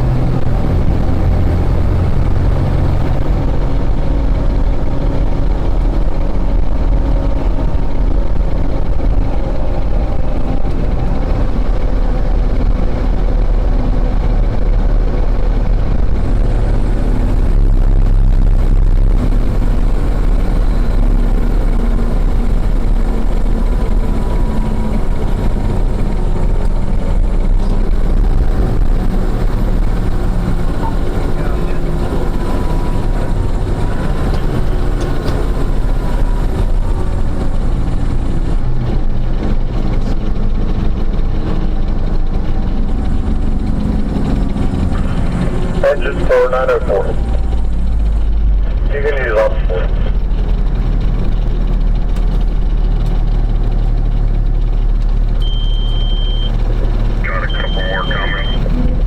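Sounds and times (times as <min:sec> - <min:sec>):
fire engine rumbling: 0:00.0 - 0:59.0
road noise: 0:00.0 - 0:59.0.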